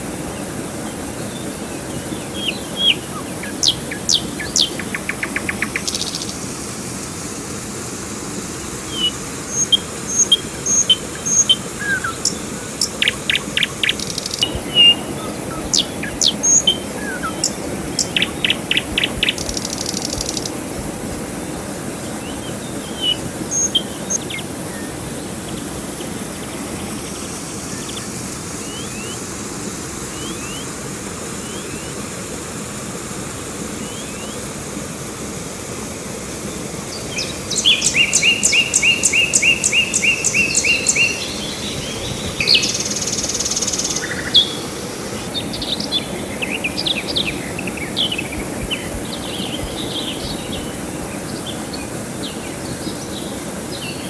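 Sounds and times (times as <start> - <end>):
river water rushing: 0.0 - 54.0
songbirds chirping and trilling: 0.2 - 6.6, 8.8 - 29.2, 36.8 - 54.0.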